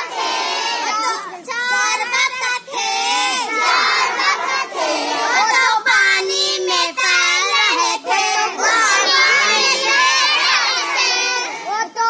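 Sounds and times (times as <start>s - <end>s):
girls singing and chanting: 0.0s - 12.0s.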